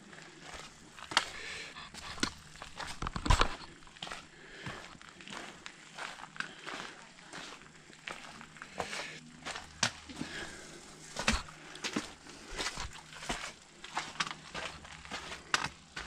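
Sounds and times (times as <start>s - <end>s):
footsteps on a trail: 0.0s - 16.0s.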